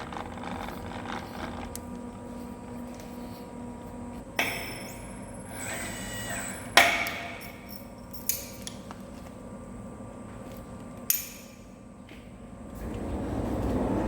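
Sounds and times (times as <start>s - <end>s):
low workshop hum: 0.0s - 14.0s.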